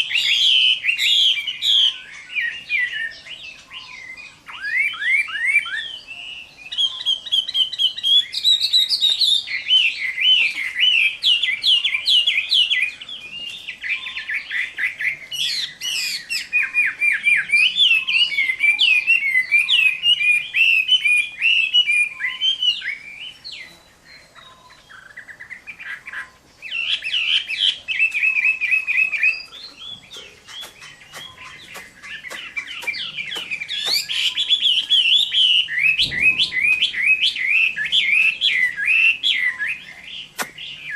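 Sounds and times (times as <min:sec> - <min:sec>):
songbird singing trills and whistles: 0:00.0 - 0:40.9.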